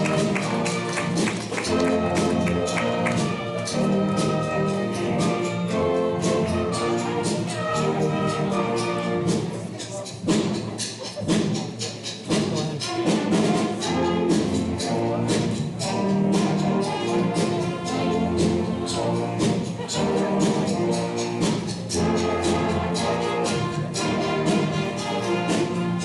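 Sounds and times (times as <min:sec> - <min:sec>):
school band brass playing: 0:00.0 - 0:09.5, 0:12.3 - 0:26.0
steady drum beat: 0:00.0 - 0:26.0.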